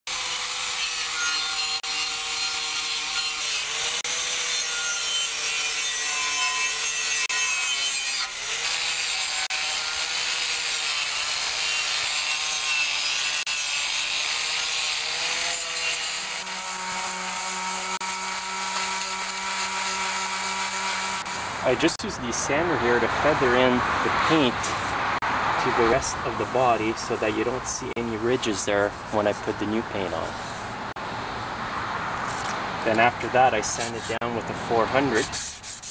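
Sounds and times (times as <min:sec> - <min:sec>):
electric sander on steel: 0:00.1 - 0:30.6.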